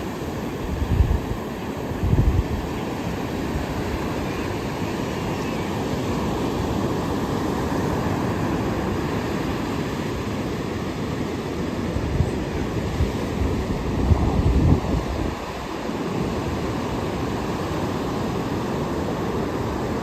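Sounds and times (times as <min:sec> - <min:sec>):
ocean surf washing ashore: 0:00.0 - 0:20.0.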